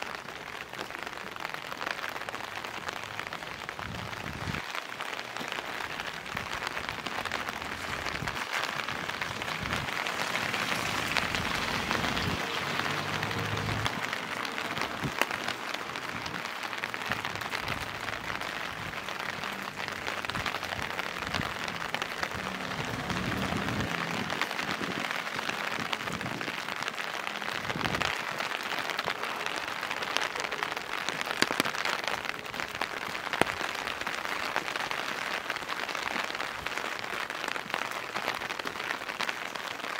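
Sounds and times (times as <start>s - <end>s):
rain drop ticks: 0.0s - 39.9s
rain splashing on hard surfaces: 0.0s - 39.9s.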